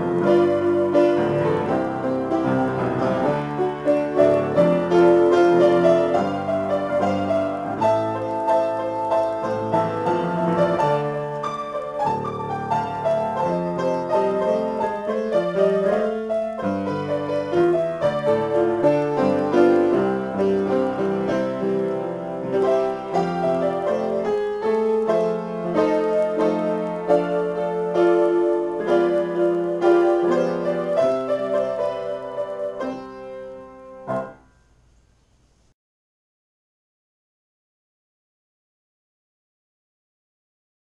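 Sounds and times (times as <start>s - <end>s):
upright piano improvising: 0.0s - 34.9s.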